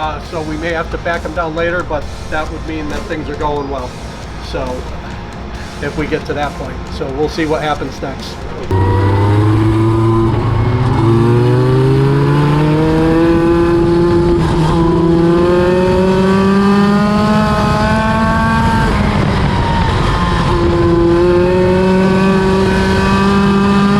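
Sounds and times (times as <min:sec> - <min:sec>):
race car engine: 0:00.0 - 0:23.9.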